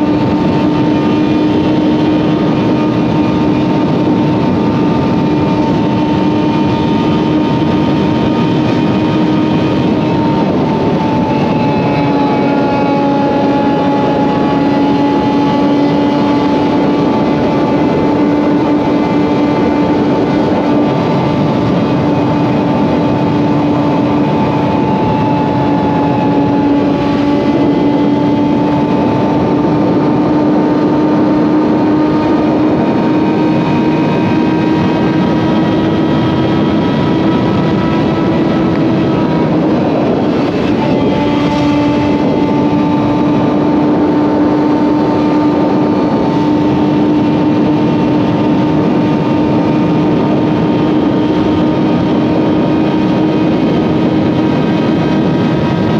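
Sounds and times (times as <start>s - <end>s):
motorcycle engine at high revs: 0.0s - 55.9s
wind noise: 0.0s - 55.9s.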